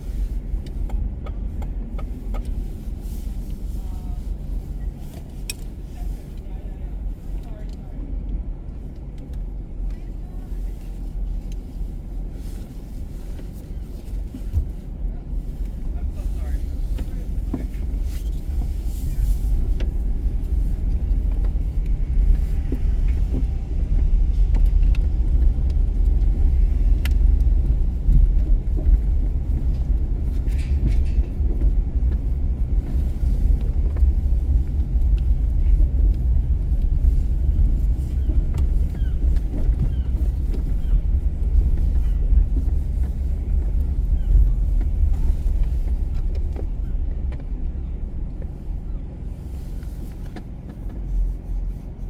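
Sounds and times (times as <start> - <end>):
car road noise rumble: 0.0 - 52.0.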